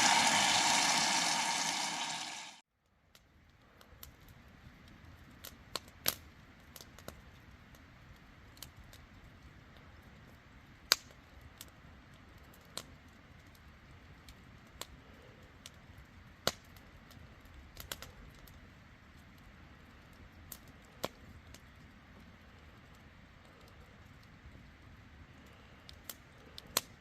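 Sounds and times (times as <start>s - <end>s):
rain dripping on a tent: 3.2s - 27.0s.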